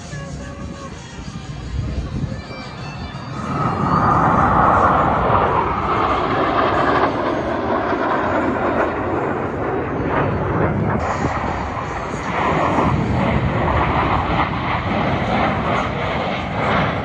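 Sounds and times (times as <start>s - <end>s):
jets roaring past: 0.0s - 17.0s.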